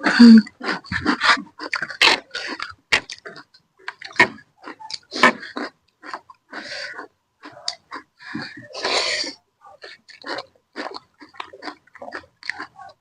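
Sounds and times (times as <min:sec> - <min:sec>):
chewing smacks: 0:00.4 - 0:13.0.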